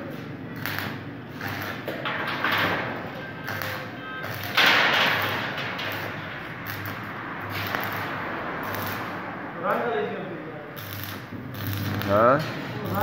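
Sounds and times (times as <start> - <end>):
welding arc crackling and sizzling: 0.0 - 9.9, 10.7 - 13.0.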